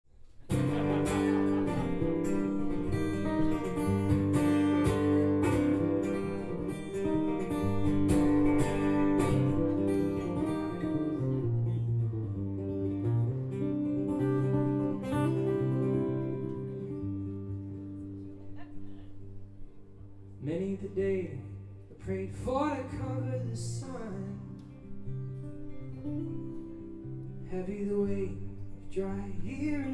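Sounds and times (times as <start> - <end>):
acoustic guitar strumming: 0.5 - 29.9.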